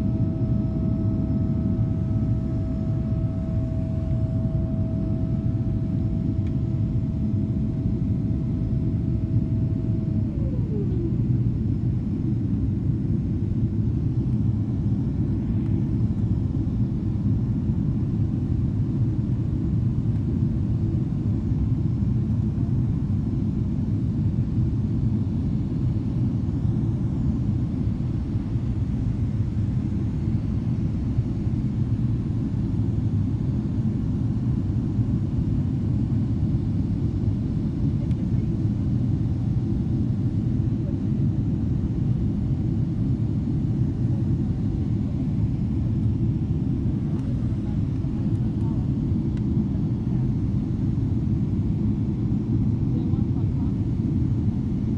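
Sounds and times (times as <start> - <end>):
faint whine: 0.0 - 54.9
jet engine cabin rumble: 0.0 - 54.9.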